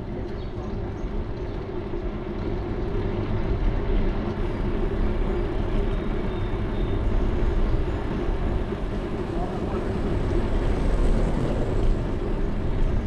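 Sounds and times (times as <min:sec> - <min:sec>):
wind rumble: 0:00.0 - 0:13.0
bicycle tyres on asphalt: 0:00.2 - 0:13.0.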